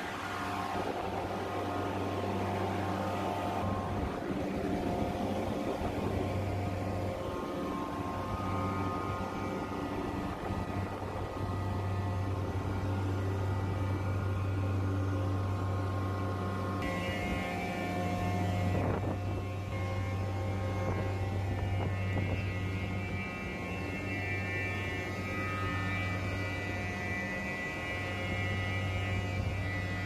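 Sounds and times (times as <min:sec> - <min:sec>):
chiller machine hum: 0:00.0 - 0:30.0
higher machine whine: 0:00.0 - 0:30.0.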